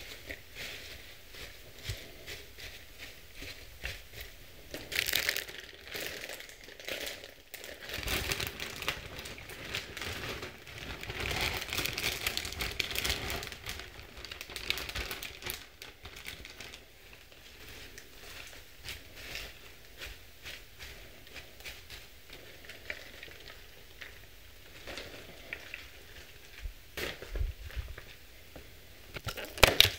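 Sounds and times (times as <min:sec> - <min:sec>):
crinkly plastic packaging: 0:00.0 - 0:28.2, 0:29.1 - 0:29.9
leafy greens rustling: 0:00.0 - 0:29.9.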